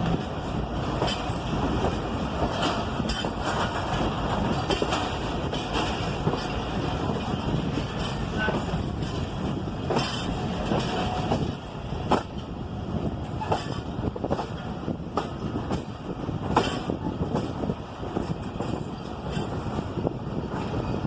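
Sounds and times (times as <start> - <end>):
train rumbling on track: 0.0 - 21.0
wheels clacking on rails: 0.0 - 21.0.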